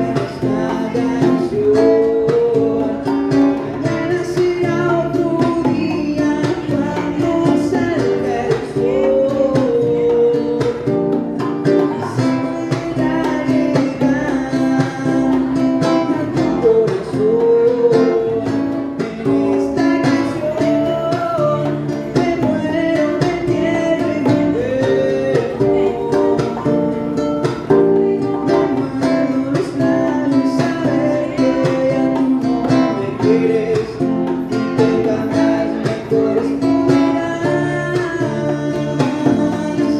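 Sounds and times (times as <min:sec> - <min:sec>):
acoustic guitar: 0:00.0 - 0:39.9
person singing: 0:00.0 - 0:39.9.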